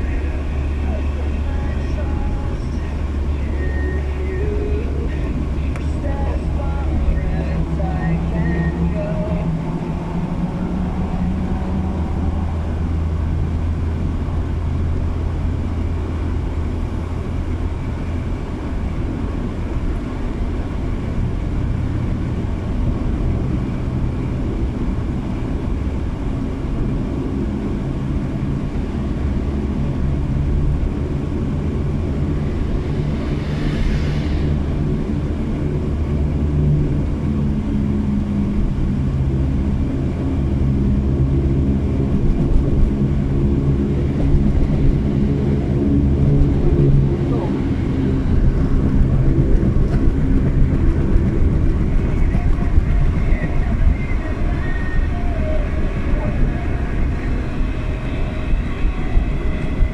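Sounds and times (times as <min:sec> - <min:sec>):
engine and tyre drone in car cabin: 0:00.0 - 0:59.9.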